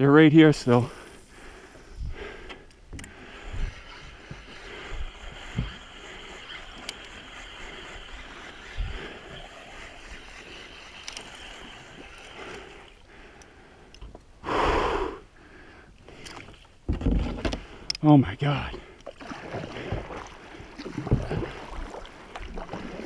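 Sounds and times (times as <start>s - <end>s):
water lapping around kayak: 0.7s - 14.1s, 15.4s - 23.0s.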